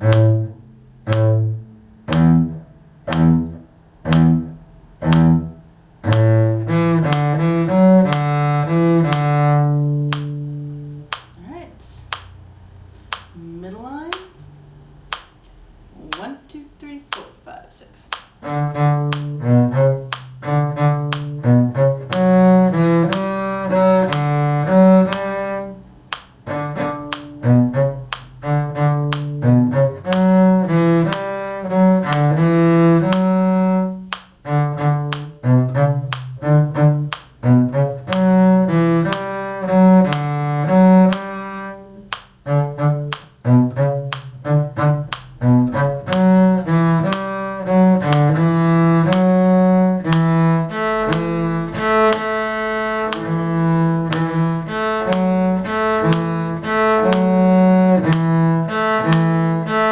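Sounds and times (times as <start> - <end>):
bowed string instrument playing: 0.0 - 11.2, 18.4 - 59.9.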